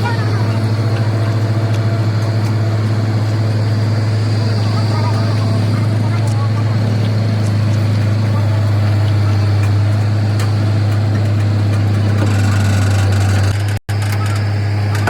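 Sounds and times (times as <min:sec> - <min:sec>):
motor running with low hum: 0:00.0 - 0:15.0.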